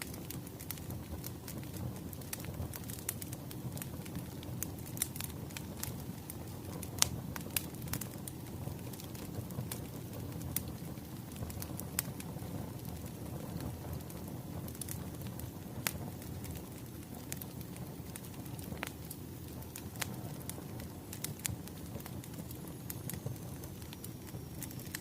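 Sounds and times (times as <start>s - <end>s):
fire crackling and popping: 0.0s - 25.0s
fire hissing and rumbling: 0.0s - 25.0s.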